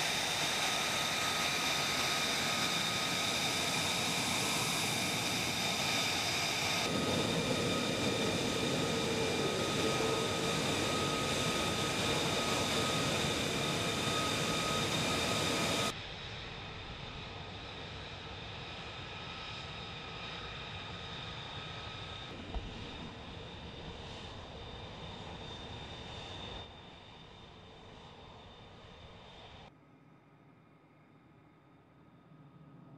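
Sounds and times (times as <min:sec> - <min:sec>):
jet engine roaring with high whine: 0:00.0 - 0:32.9.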